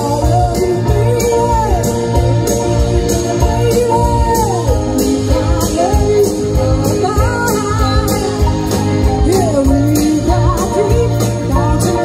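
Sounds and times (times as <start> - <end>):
drums keeping a steady beat: 0.0 - 12.0
rock band playing: 0.0 - 12.0
woman singing: 0.0 - 12.0.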